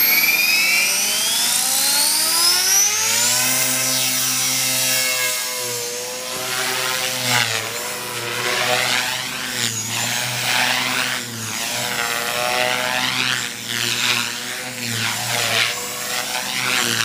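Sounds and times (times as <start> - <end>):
rc helicopter motor whine: 0.0 - 17.0
rotor blades buzzing: 0.0 - 17.0.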